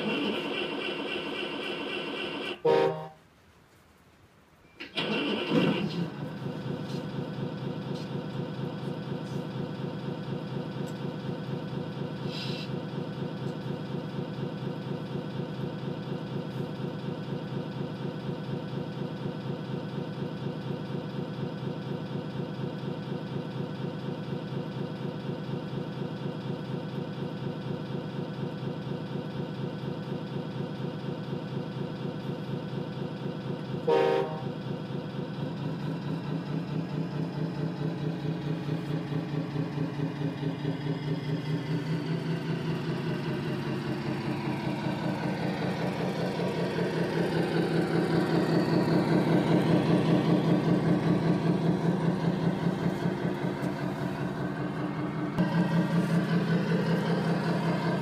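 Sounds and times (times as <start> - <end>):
simulated diesel engine idling: 0.0 - 3.2, 4.8 - 58.0.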